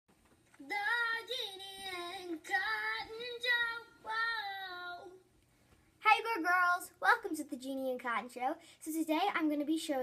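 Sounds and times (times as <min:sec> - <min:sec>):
girl singing: 0:00.6 - 0:05.4, 0:06.0 - 0:10.0.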